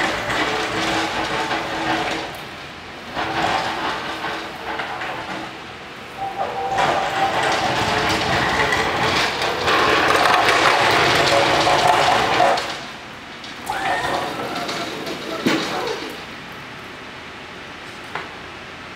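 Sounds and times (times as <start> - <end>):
wheels rolling on concrete: 0.0 - 17.0.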